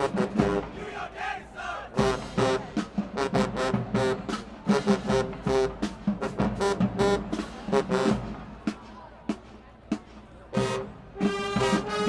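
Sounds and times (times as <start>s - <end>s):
marching band staccato chords: 0.0s - 12.0s.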